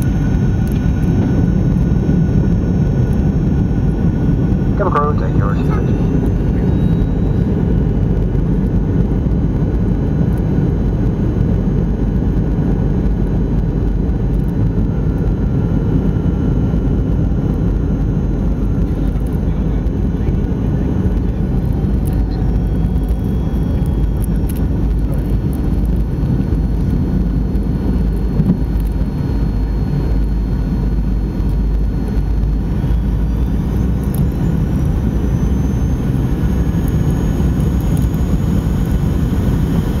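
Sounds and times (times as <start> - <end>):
cabin air rush and engine noise: 0.0 - 40.0
thin engine whine: 0.0 - 40.0.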